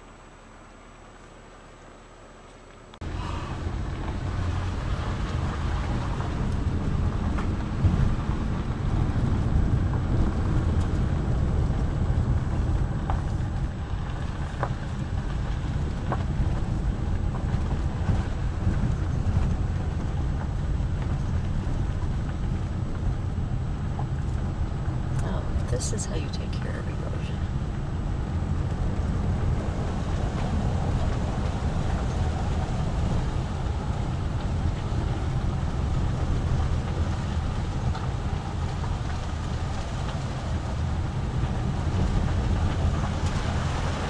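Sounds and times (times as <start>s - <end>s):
car rumbling on gravel: 0.0s - 44.0s
wind noise on microphone: 3.0s - 44.0s.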